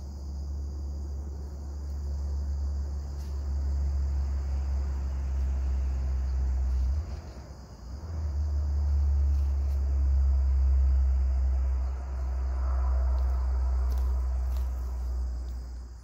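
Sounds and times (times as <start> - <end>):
insects chirring: 0.0 - 16.0
low rumble: 0.4 - 16.0.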